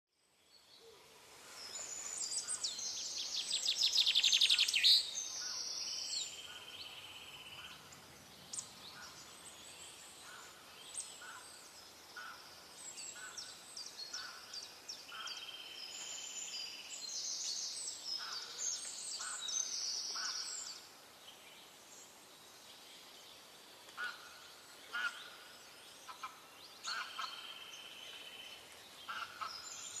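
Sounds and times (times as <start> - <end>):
birds chirping and trilling: 0.5 - 30.0.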